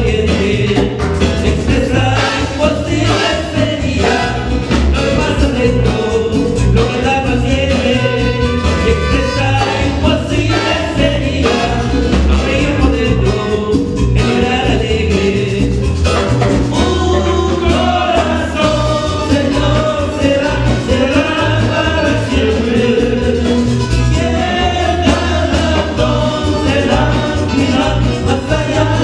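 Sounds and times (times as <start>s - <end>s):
band playing: 0.0s - 29.0s
people singing: 0.0s - 29.0s
pulsing bass line: 0.0s - 29.0s.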